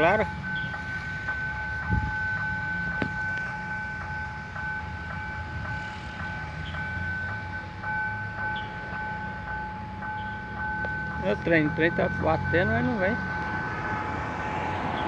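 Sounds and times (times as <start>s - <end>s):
level crossing warning bell: 0.0s - 15.0s
low rumble of traffic: 0.0s - 15.0s.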